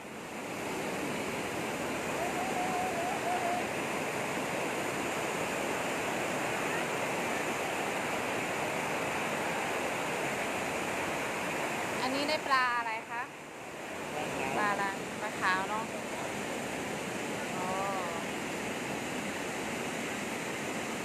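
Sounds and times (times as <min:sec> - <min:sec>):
stream rushing strongly: 0:00.0 - 0:21.0.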